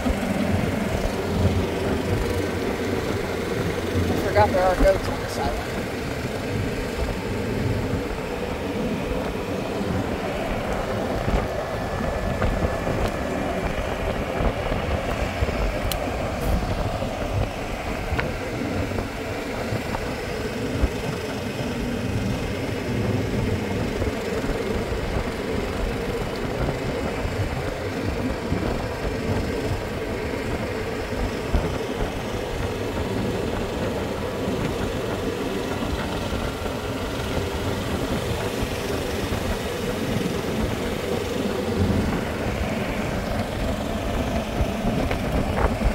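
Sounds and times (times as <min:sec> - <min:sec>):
vehicle rumble on road: 0:00.0 - 0:45.9
wind buffeting microphone: 0:00.0 - 0:45.9.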